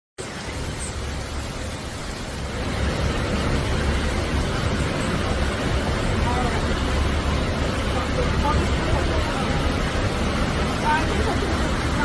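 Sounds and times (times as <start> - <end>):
heavy rain: 0.2 - 12.0.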